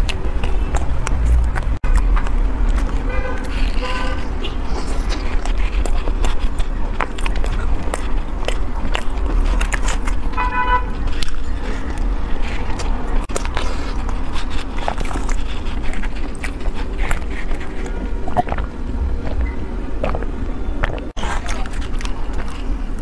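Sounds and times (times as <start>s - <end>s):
steady low rumble: 0.0s - 23.0s
wet chewing clicks: 0.0s - 23.0s.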